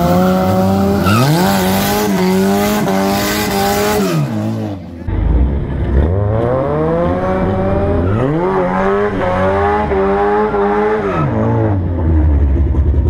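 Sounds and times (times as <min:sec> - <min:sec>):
car engine revving hard: 0:00.0 - 0:04.8, 0:05.9 - 0:11.9.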